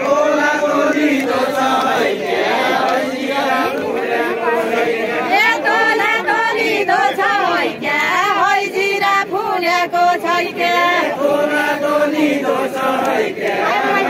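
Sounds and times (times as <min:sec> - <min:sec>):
group singing without instruments: 0:00.0 - 0:14.0.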